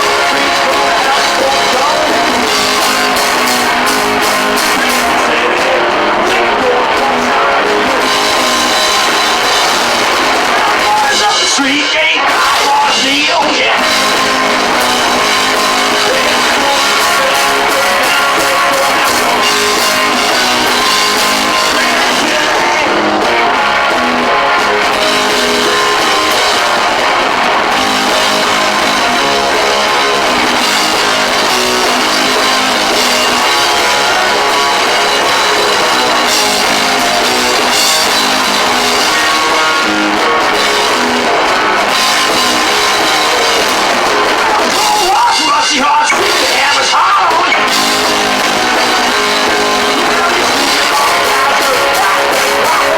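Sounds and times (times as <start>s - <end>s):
drum kit: 0.0s - 52.9s
electric guitar: 0.0s - 52.9s.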